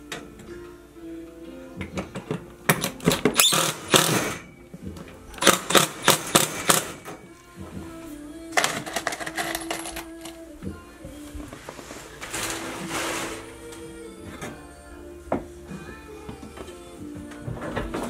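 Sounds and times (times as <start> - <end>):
quiet background music: 0.0 - 18.0.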